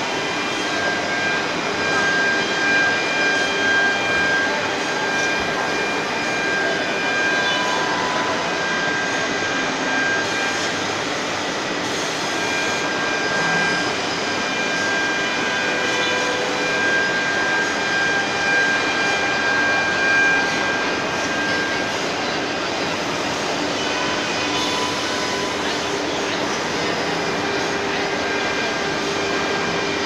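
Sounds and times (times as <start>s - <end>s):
router spindle high whine: 0.0s - 30.0s.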